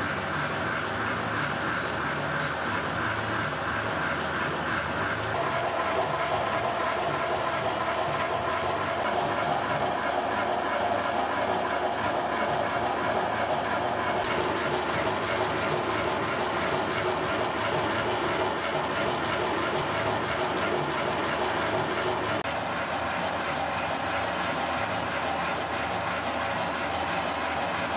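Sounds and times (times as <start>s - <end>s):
milling machine cutting gear: 0.0s - 27.9s
whining tones: 0.0s - 27.9s.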